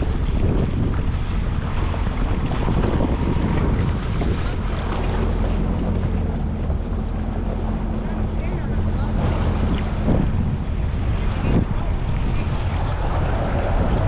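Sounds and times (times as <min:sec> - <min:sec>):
jet ski engine running: 0:00.0 - 0:14.0
water splashing against hull: 0:00.0 - 0:14.0
wind buffeting microphone: 0:00.0 - 0:14.0.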